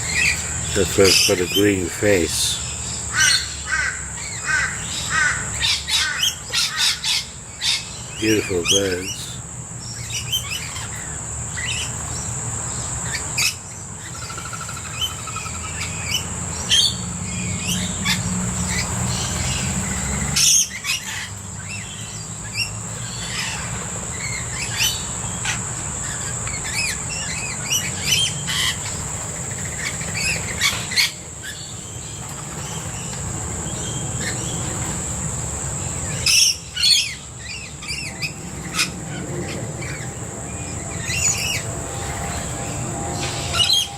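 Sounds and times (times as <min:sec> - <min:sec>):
high-pitched insect drone: 0:00.0 - 0:07.4, 0:08.1 - 0:32.2, 0:32.8 - 0:43.9
birds chirping and calling: 0:00.0 - 0:43.9.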